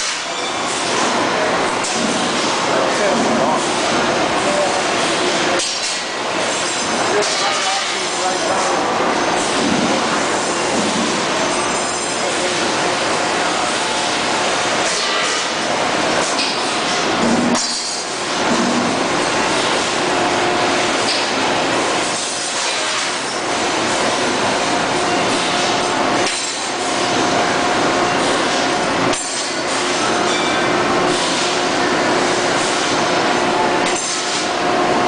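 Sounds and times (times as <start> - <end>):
industrial machinery hum: 0.0 - 35.0.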